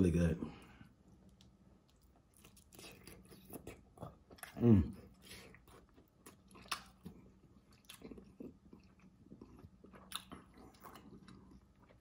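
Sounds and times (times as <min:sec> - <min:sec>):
person chewing food: 0:00.6 - 0:12.0.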